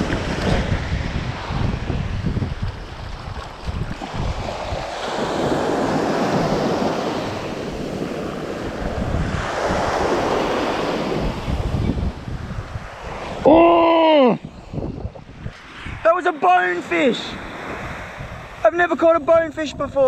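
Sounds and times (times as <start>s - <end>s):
small waves washing on sand: 0.0s - 20.0s
wind buffeting microphone: 0.0s - 20.0s.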